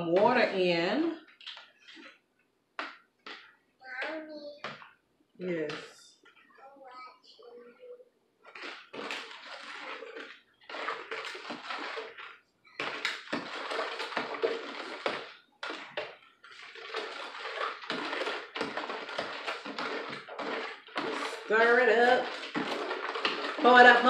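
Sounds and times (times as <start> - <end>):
spoon stirring in plastic pitcher: 0.0 - 5.0, 8.4 - 24.0.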